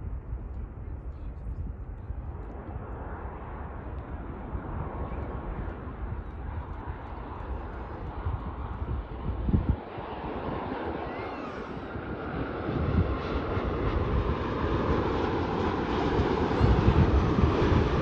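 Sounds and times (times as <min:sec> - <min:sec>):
jet engines rumbling: 0:00.0 - 0:18.0
wind buffeting microphone: 0:00.0 - 0:18.0.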